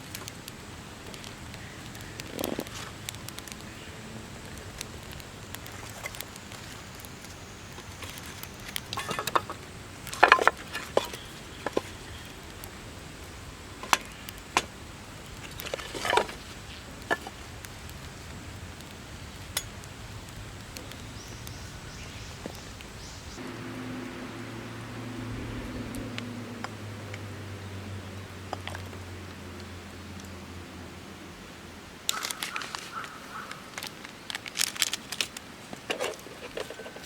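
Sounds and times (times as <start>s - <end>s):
steady low hiss: 0.0s - 37.0s.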